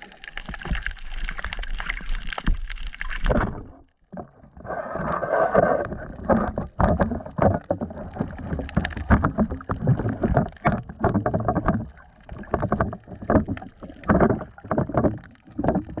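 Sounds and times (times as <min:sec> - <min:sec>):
water splashing and knocking: 0:00.0 - 0:04.6, 0:05.6 - 0:16.0.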